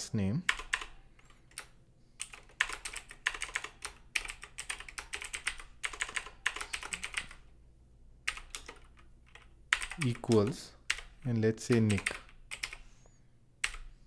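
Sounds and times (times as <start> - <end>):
typing on computer keyboard: 0.5 - 7.4, 8.3 - 12.8, 13.6 - 13.9.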